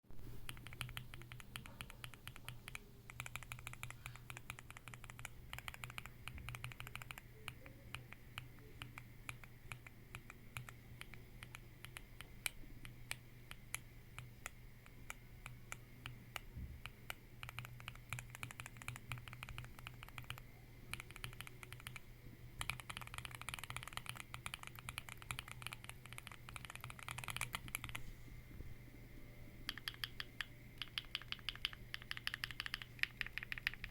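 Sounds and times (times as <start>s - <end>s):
steady low hum: 0.2s - 33.9s
mechanical keyboard typing: 0.4s - 28.0s, 29.7s - 33.9s.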